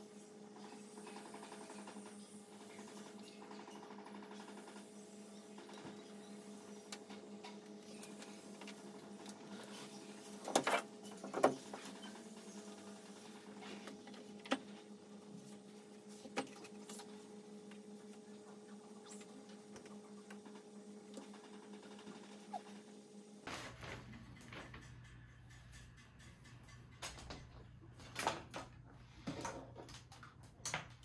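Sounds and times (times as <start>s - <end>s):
steady hum: 0.0s - 26.6s.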